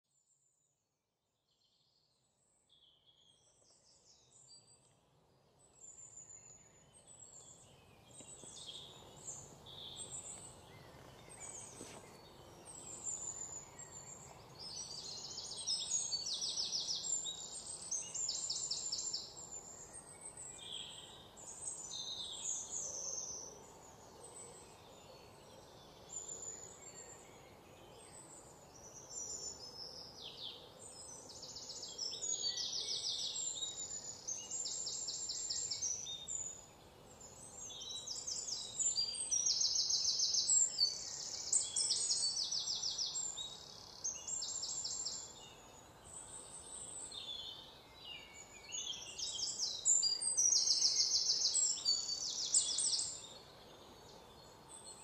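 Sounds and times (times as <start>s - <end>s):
faint outdoor background noise: 0.0s - 55.0s
birds chirping and trilling: 5.6s - 55.0s.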